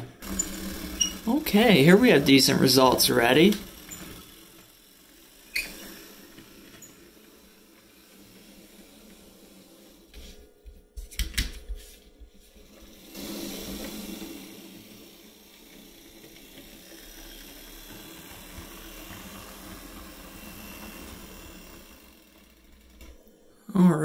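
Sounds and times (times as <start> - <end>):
model train motor whirring: 0.0 - 10.5, 12.6 - 23.6.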